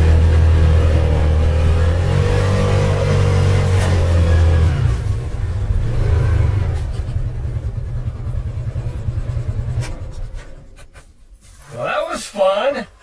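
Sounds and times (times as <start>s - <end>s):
utility vehicle engine rumbling: 0.0s - 12.3s.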